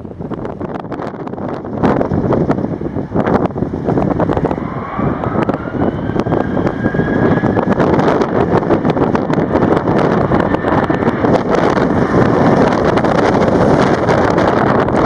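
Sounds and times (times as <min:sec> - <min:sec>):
engine whine: 0:00.0 - 0:15.0
jet engines rumbling: 0:00.0 - 0:15.0
wind buffeting microphone: 0:00.0 - 0:15.0.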